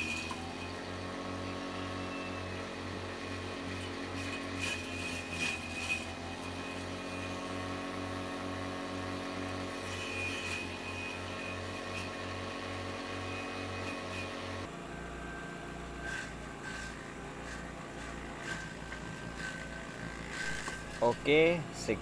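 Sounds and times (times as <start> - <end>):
electric motor humming and whirring: 0.0 - 22.0.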